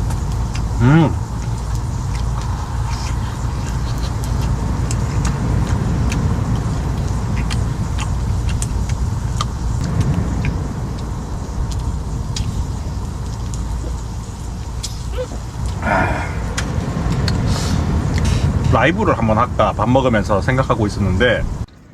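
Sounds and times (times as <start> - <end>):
firewood crackling in a stove: 0.0 - 21.9.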